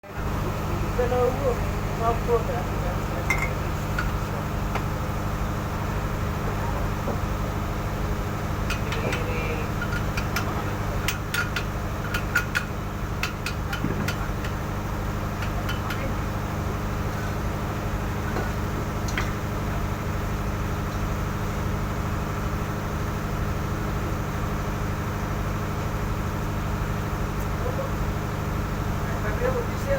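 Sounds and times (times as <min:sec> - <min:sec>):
generator engine droning: 0:00.0 - 0:29.9.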